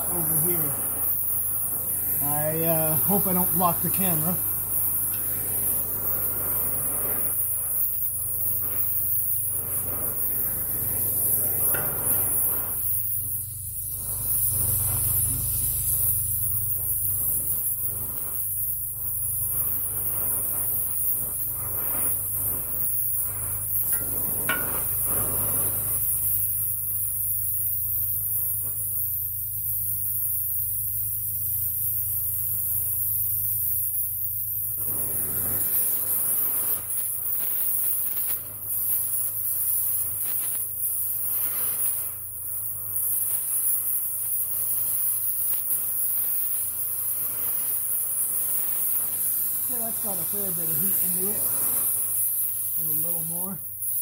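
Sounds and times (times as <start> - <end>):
torch flame hissing: 0.0 - 54.0.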